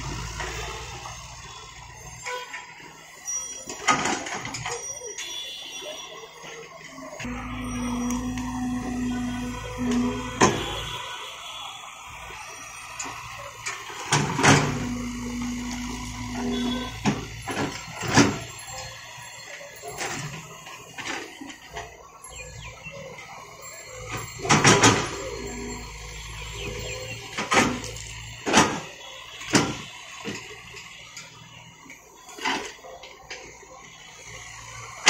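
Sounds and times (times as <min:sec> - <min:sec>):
diesel engine running low: 0:00.0 - 0:05.2, 0:06.0 - 0:35.0.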